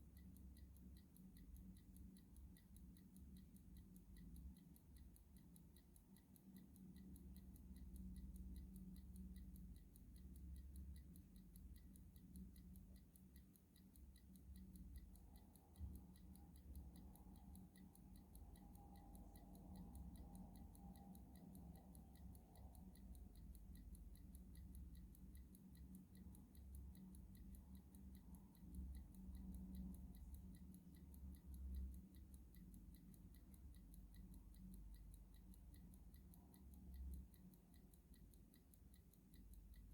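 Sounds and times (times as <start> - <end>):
clock ticking: 0.0 - 39.9
low background hum: 0.0 - 39.9.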